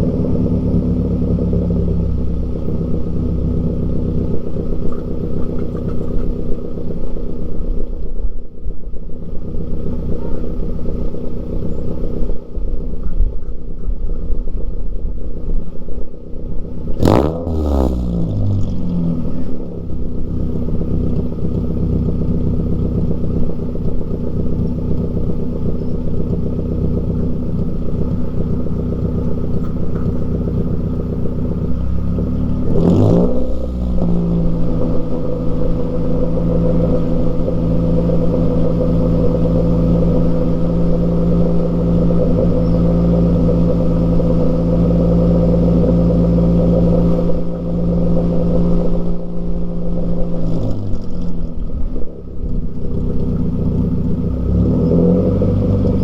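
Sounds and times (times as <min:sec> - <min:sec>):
loud car engine idling and revving: 0:00.0 - 0:56.0.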